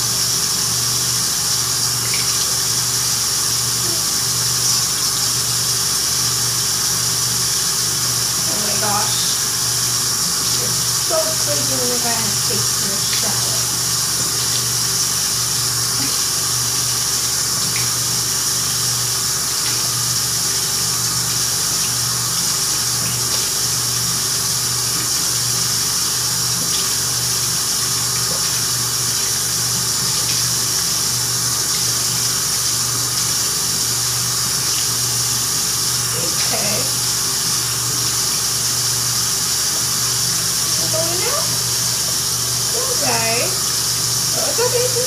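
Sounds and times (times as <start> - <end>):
tap water running into sink: 0.0 - 45.0.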